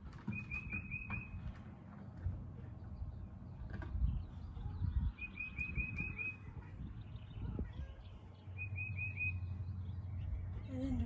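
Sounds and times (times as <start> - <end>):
bird chirping: 0.2 - 1.4, 2.8 - 11.0.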